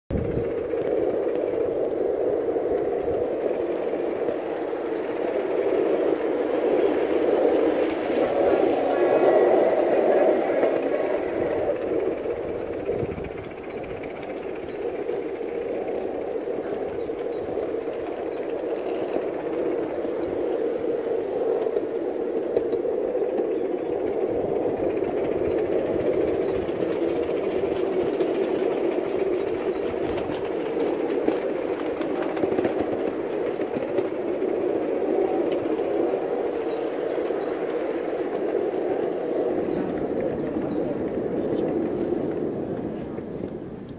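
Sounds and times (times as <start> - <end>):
small wheels rumbling on rails: 0.1 - 43.9.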